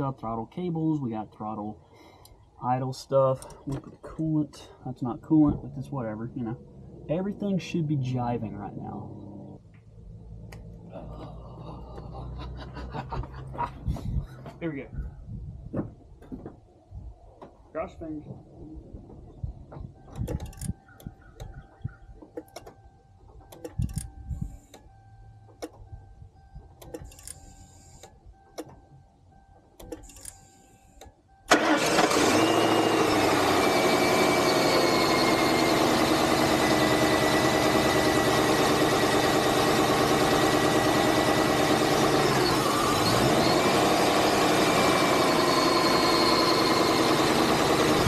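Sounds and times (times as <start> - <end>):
car engine starting and running: 0.0 - 17.6, 18.2 - 48.0.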